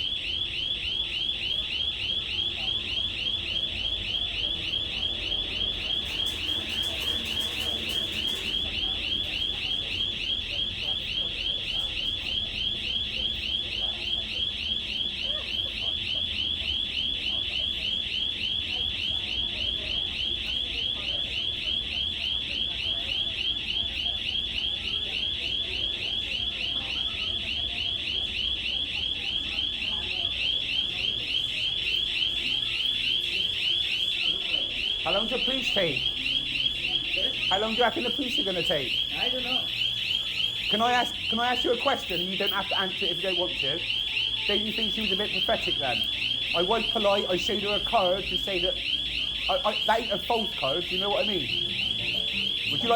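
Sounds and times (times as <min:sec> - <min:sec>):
high warbling alarm: 0:00.0 - 0:52.9.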